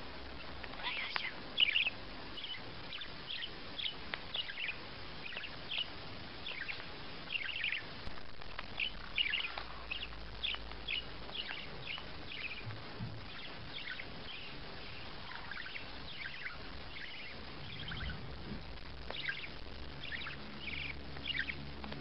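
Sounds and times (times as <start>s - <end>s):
background hiss: 0.0s - 22.0s
small bird chirping: 0.3s - 22.0s.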